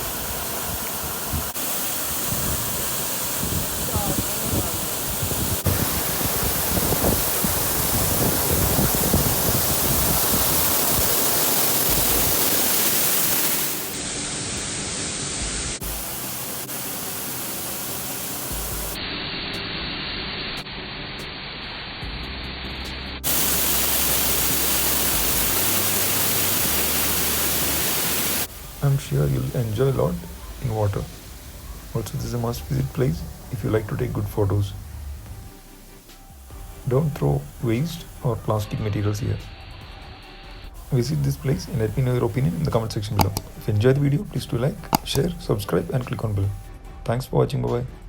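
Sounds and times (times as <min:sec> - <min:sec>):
waterfall rushing: 0:00.0 - 0:19.0, 0:23.2 - 0:38.6, 0:40.8 - 0:46.7.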